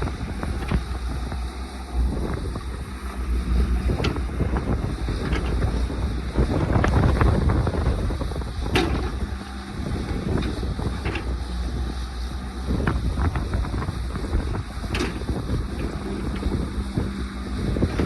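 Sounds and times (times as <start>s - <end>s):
excavator diesel engine running: 0.0s - 18.0s
wind on microphone: 0.0s - 18.0s.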